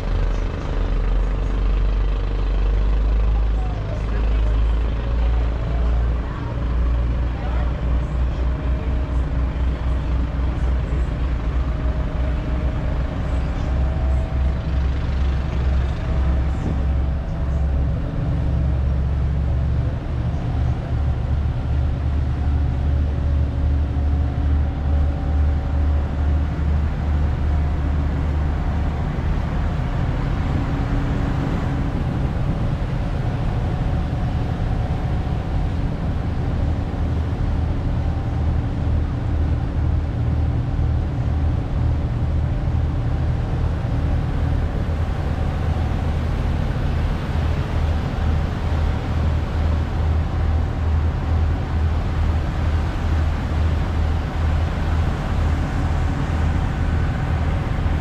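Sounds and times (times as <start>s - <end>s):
diesel engines droning: 0.0s - 58.0s
propeller wake rushing: 0.0s - 58.0s.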